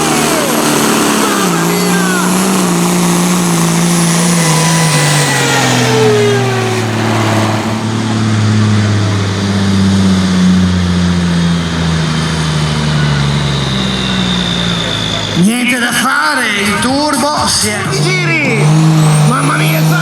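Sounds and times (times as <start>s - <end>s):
tractor engine at high revs: 0.0s - 20.0s
turbo whine: 0.0s - 20.0s.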